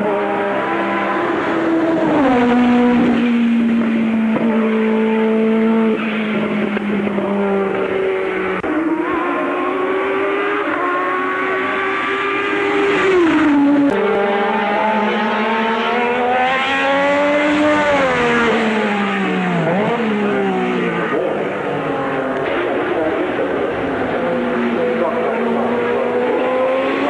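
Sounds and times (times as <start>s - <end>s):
racing car engine at high revs: 0.0s - 27.0s.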